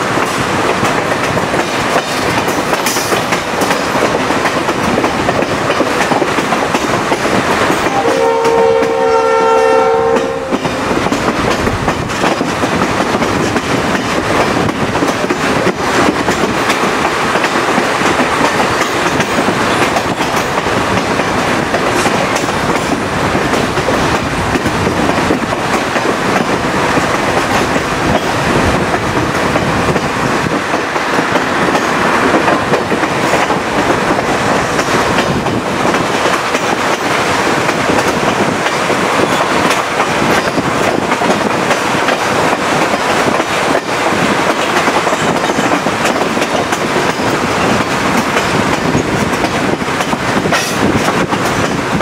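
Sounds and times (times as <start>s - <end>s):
train rolling rumble: 0.0s - 52.0s
wheels clicking over rail joints: 0.1s - 9.0s, 10.1s - 52.0s.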